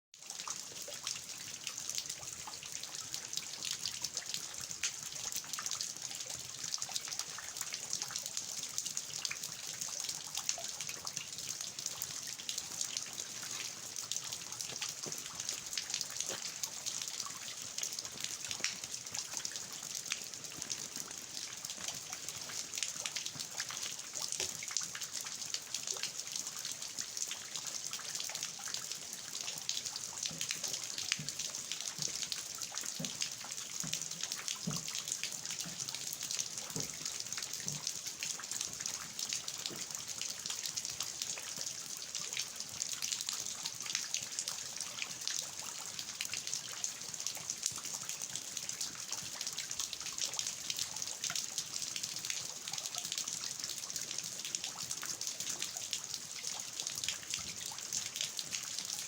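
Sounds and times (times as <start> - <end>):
rain on a garden: 0.2 - 59.0
water dripping off eaves: 0.2 - 59.0.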